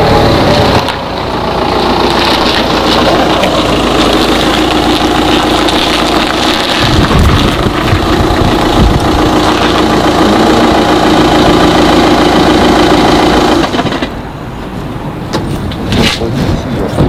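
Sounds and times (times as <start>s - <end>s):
car engine idling: 0.0s - 15.3s.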